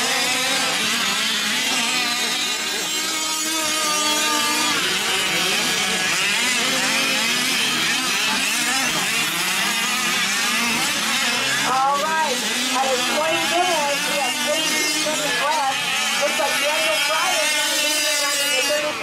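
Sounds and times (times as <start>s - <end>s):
rc truck engines revving: 0.0s - 19.0s.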